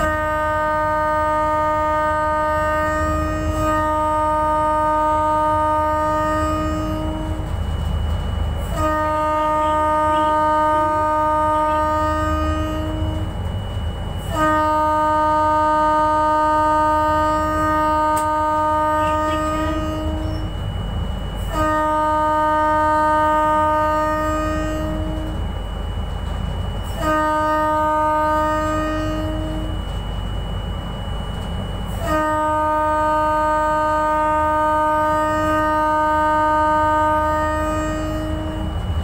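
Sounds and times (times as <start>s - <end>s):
locomotive horn blasts: 0.0s - 30.3s, 31.3s - 39.0s
locomotive rumble: 0.0s - 39.0s.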